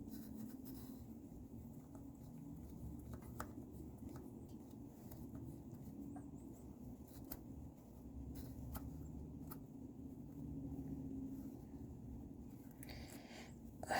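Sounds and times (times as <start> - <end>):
faint metallic clicks and scrapes: 0.0 - 13.6
low steady rumble: 0.0 - 13.9.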